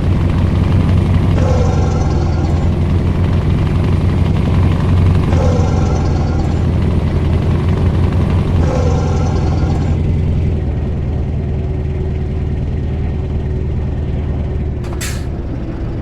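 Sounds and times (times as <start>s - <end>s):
truck diesel engine droning: 0.0s - 16.0s.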